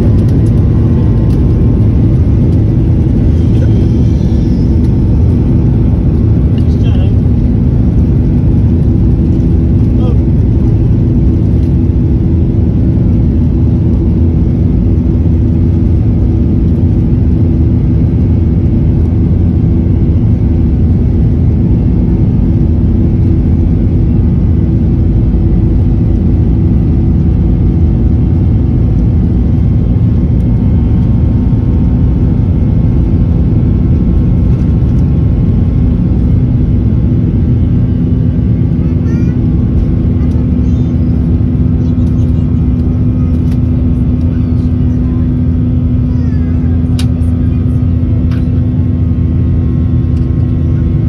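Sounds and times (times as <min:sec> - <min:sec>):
jet engines running steadily: 0:00.0 - 0:51.0.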